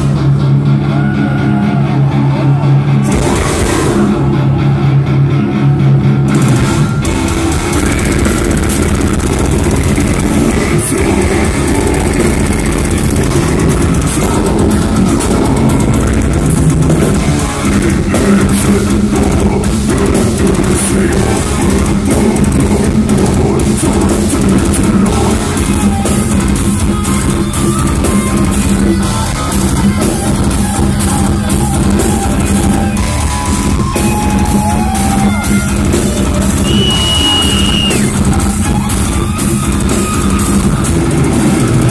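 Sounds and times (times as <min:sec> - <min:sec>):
death metal band playing live: 0:00.0 - 0:41.9.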